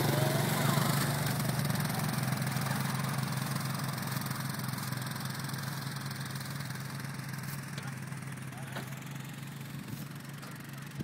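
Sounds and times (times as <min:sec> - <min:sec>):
dirt bike and quad engines: 0:00.0 - 0:11.0.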